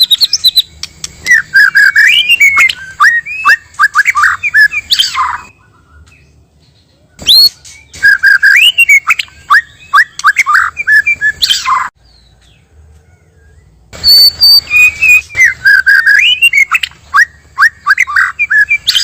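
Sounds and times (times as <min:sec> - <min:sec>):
songbird whistling and chirping: 0:00.0 - 0:19.0.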